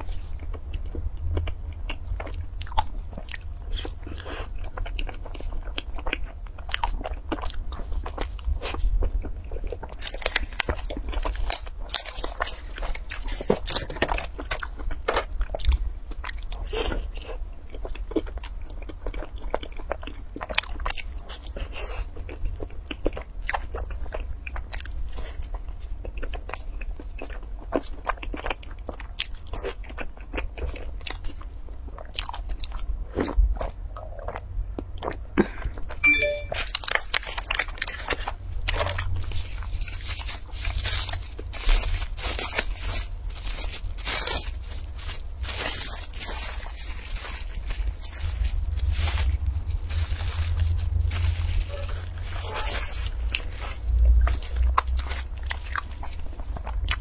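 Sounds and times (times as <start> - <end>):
steady low hum: 0.0 - 24.4, 32.7 - 57.0
biting and chewing pastry: 0.0 - 57.0.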